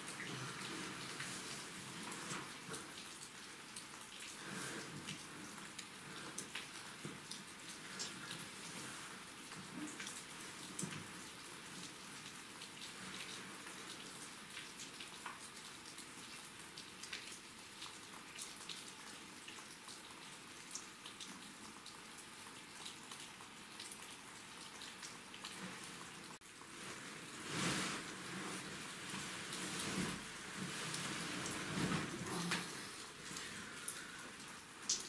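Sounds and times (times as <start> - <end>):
steady rain: 0.0 - 35.0.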